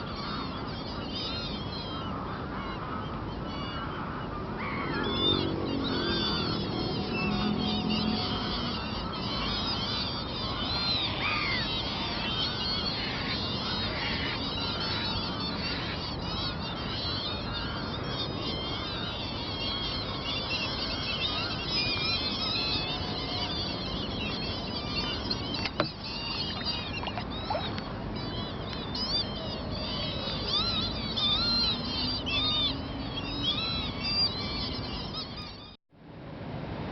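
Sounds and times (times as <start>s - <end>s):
flock of birds calling: 0.0s - 35.8s.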